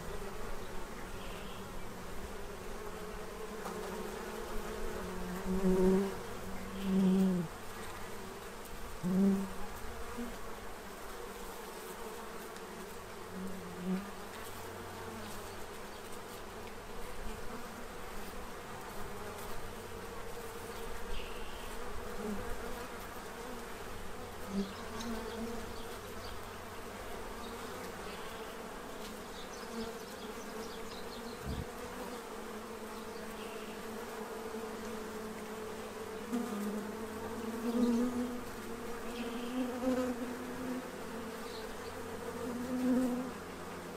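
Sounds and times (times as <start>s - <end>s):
bee flying close by: 0.0s - 43.9s
bees buzzing: 0.0s - 43.9s.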